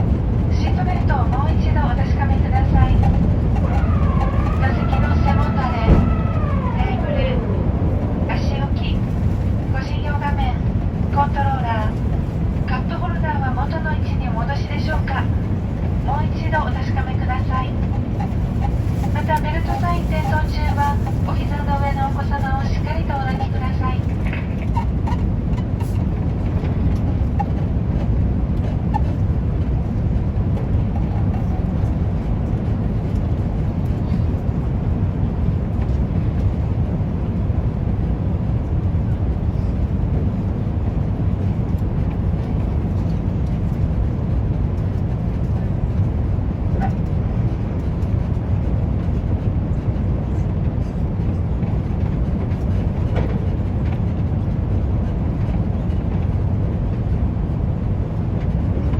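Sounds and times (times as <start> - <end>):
airplane engines rumbling in cabin: 0.0 - 58.9.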